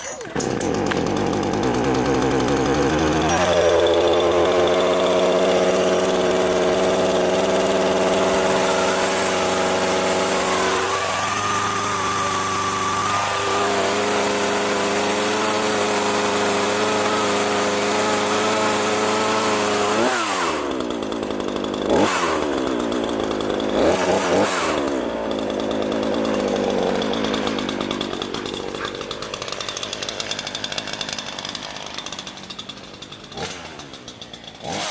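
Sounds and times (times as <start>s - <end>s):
chainsaw running: 0.0s - 34.9s.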